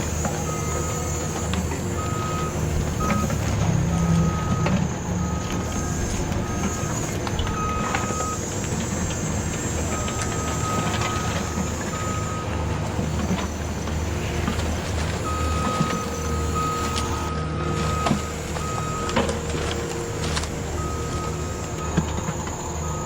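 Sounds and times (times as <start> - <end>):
high motor whine: 0.0 - 23.0
toy bulldozer motors humming: 0.0 - 23.0.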